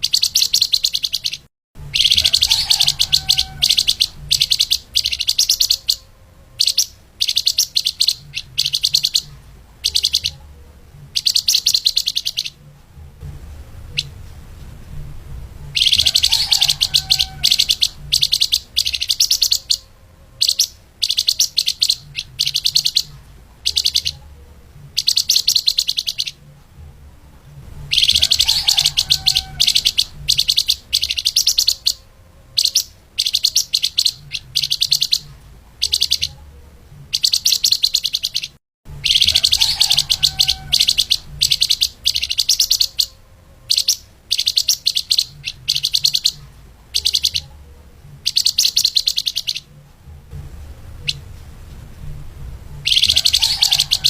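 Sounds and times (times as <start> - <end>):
songbird chattering song: 0.0 - 14.2, 15.6 - 26.8, 27.8 - 49.9, 51.0 - 51.3, 52.8 - 54.0
faint low hum: 0.0 - 54.0.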